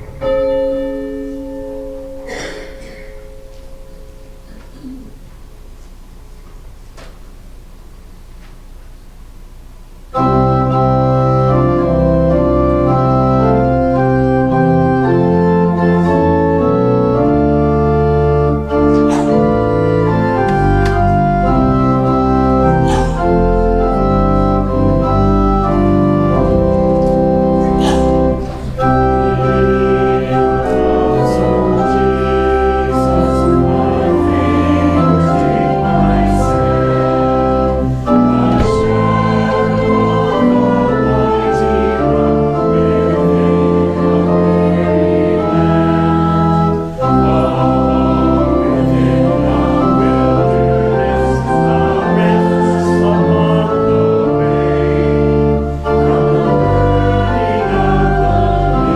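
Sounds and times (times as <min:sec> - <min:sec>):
organ playing sustained chords: 0:00.0 - 0:06.3, 0:09.6 - 0:58.9.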